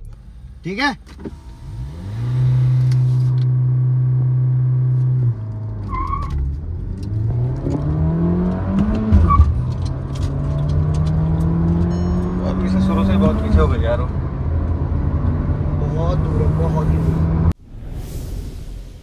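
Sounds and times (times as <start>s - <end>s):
car engine revving and accelerating: 1.4s - 17.6s.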